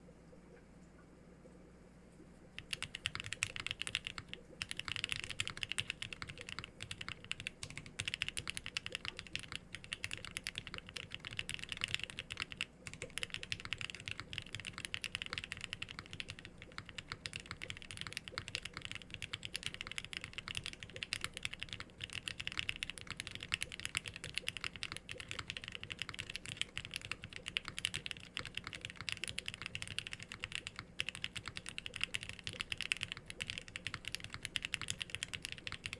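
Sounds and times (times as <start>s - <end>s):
mechanical keyboard typing: 2.6s - 35.9s.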